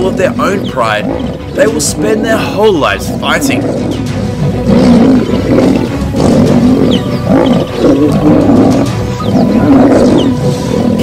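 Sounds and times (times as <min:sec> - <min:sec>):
lions growling and snarling: 0:00.0 - 0:11.0.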